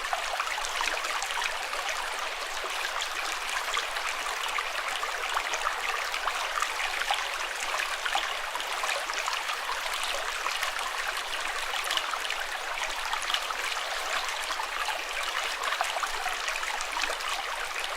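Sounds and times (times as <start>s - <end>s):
stream flowing: 0.0s - 17.9s.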